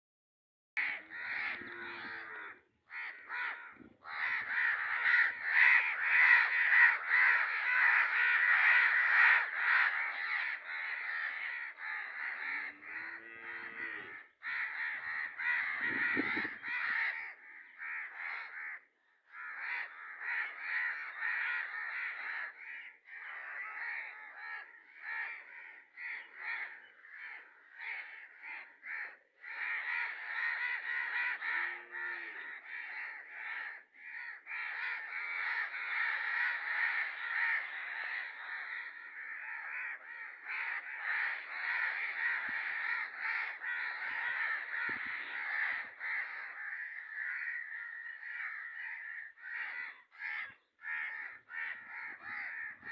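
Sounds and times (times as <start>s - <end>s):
birds calling: 0.8s - 52.9s.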